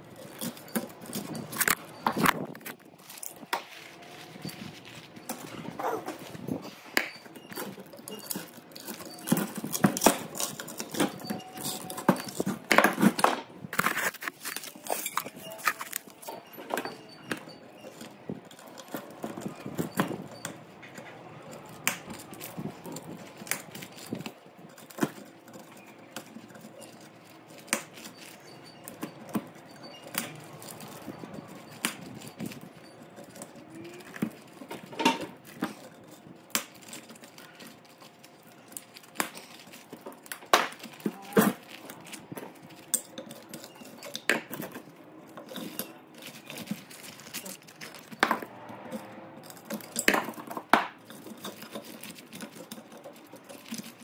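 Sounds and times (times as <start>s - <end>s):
hand tools clinking on metal: 0.0s - 54.0s.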